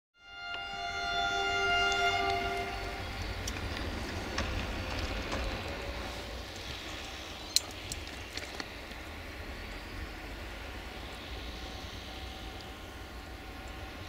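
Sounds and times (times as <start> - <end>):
bus driving past: 0.2 - 14.0
locomotive rumble: 0.2 - 14.0.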